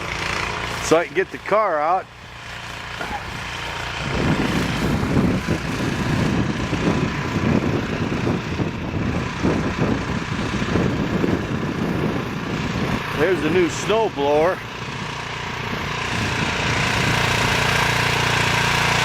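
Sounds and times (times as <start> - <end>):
snow blower engine droning: 0.0 - 19.0.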